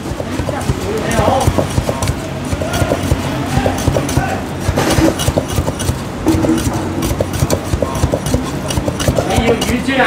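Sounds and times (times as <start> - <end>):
cleaver chopping on wooden block: 0.0 - 9.9
shop chatter: 0.0 - 10.0.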